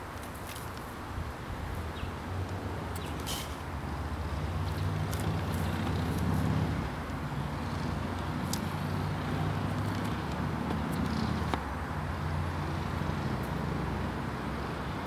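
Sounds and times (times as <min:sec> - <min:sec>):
vehicle engine humming: 0:01.2 - 0:15.0.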